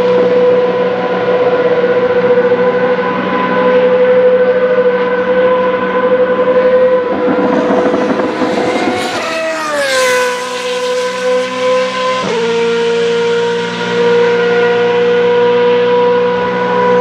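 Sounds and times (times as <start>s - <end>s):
race car engines: 0.0s - 17.0s
race car passing by: 0.0s - 17.0s.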